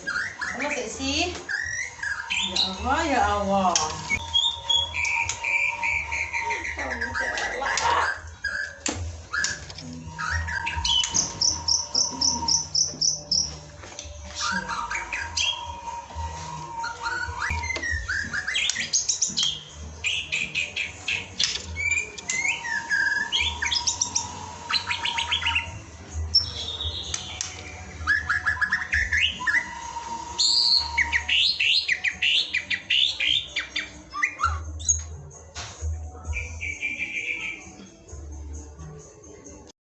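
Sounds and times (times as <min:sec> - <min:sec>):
songbird singing trills and whistles: 0:00.0 - 0:35.2, 0:36.2 - 0:37.9.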